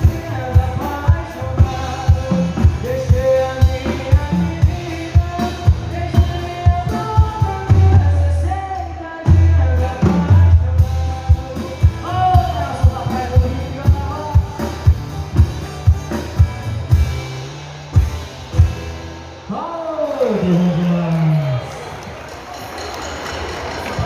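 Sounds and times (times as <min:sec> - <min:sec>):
steady drum beat: 0:00.0 - 0:20.9
band music: 0:00.0 - 0:24.0.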